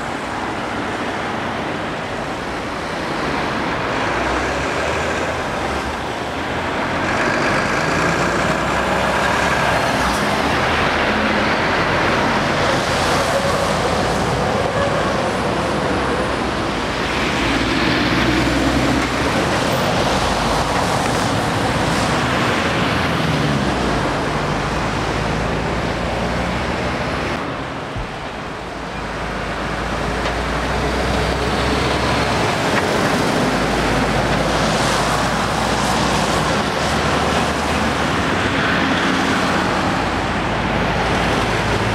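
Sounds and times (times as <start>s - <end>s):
heavy lorries driving past: 0.0s - 41.9s
tyres on the road: 0.0s - 41.9s.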